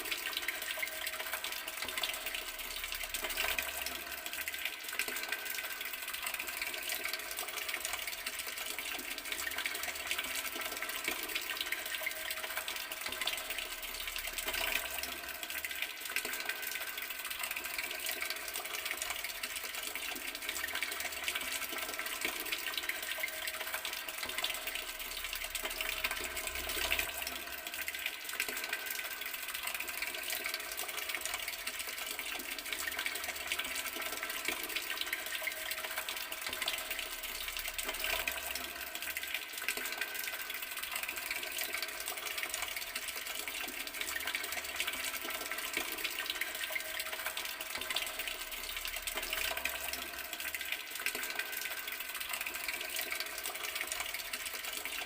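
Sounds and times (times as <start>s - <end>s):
water running from tap: 0.0s - 55.0s.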